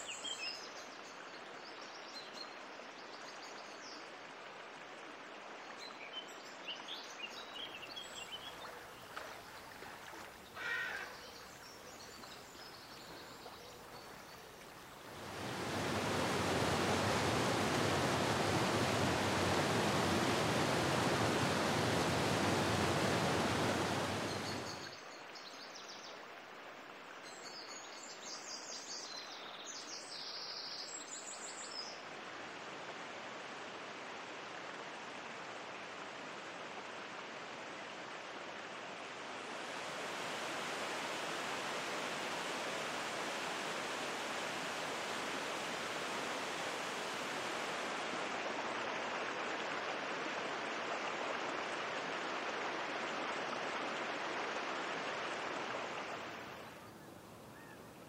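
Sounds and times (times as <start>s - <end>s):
creek water running: 0.0s - 31.0s, 31.8s - 58.0s.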